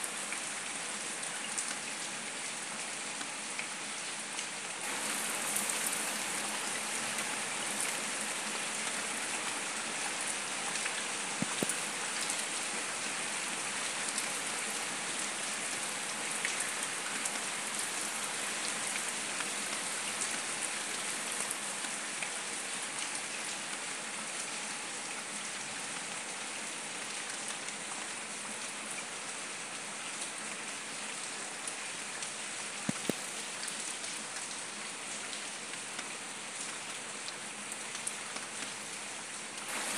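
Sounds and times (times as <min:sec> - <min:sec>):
rain on wet paving and leaves: 0:00.0 - 0:39.9.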